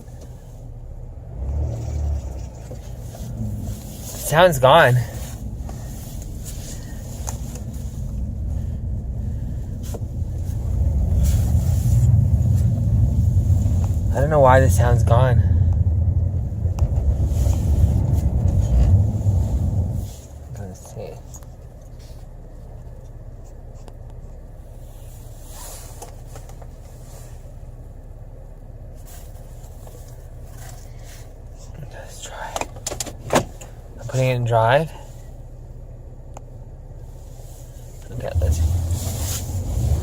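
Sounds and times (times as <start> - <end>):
car engine rumble in cabin: 0.0 - 40.0.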